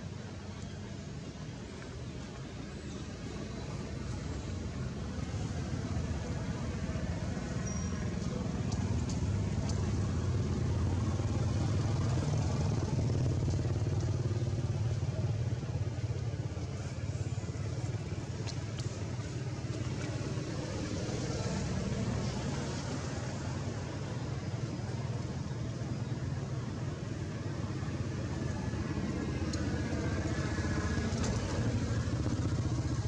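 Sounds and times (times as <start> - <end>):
distant traffic rumble: 0.0 - 33.0.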